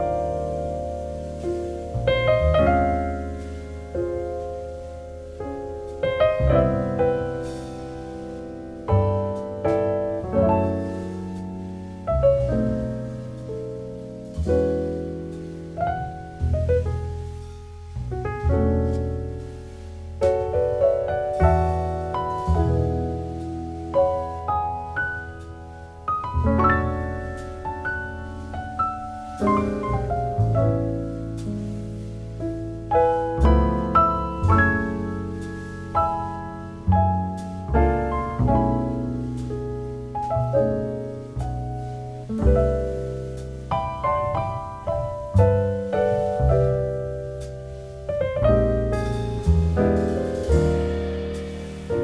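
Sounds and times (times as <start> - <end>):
slow calm piano chords: 0.0 - 52.0.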